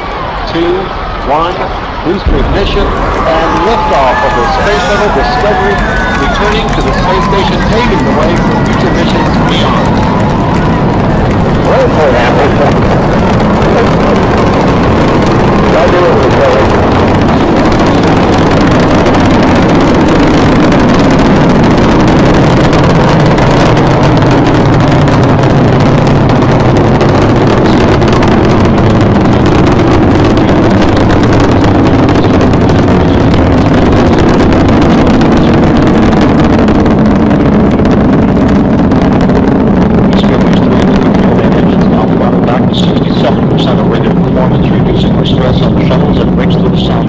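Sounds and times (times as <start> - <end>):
rocket launch rumble with crackling: 0.0 - 47.0.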